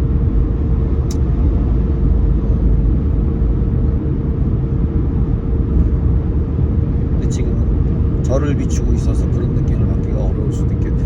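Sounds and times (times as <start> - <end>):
car road and engine rumble: 0.0 - 11.0
faint constant hum: 0.0 - 11.0.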